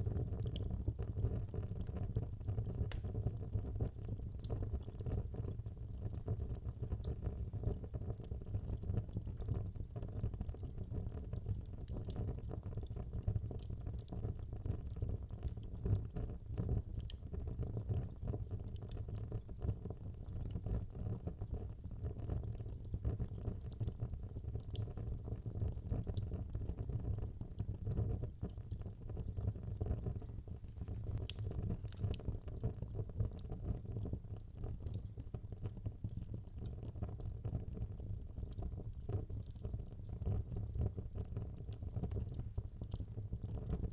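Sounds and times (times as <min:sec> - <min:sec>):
logs crackling in a fireplace: 0:00.0 - 0:43.9.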